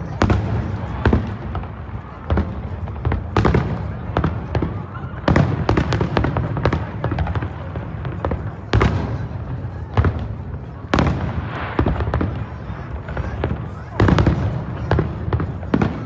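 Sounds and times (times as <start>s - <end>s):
fireworks crackling: 0.0s - 16.0s
fireworks popping and banging: 0.0s - 16.0s.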